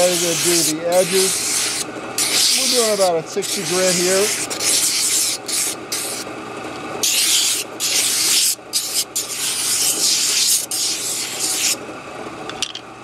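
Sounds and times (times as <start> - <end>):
wood sanding hiss: 0.0 - 6.2, 7.0 - 11.8.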